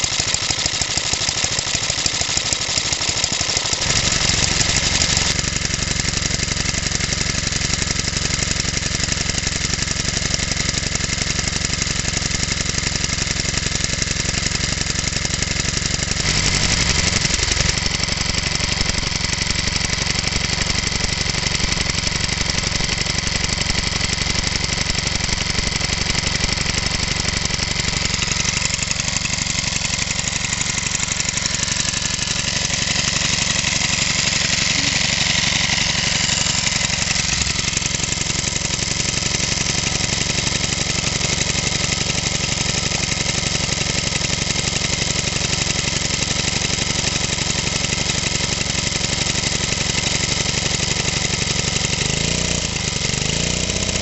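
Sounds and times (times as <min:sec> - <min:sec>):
stationary engine running: 0:00.0 - 0:54.0.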